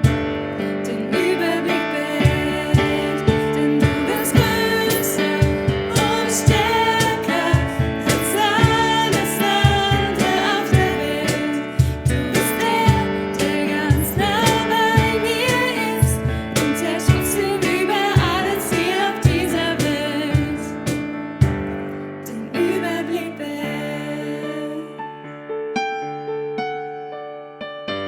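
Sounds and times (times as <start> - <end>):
pop song with singing and band: 0.0 - 21.1, 22.3 - 24.9.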